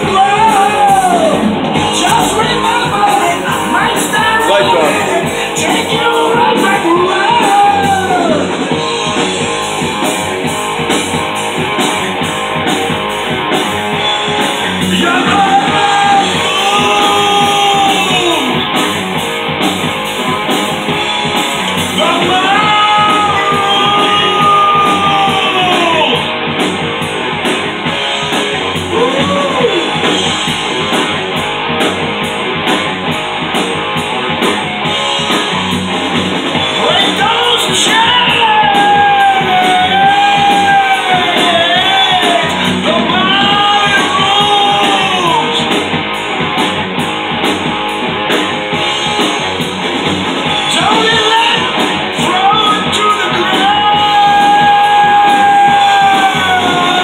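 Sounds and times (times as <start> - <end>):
rock band with guitar: 0.0 - 57.0.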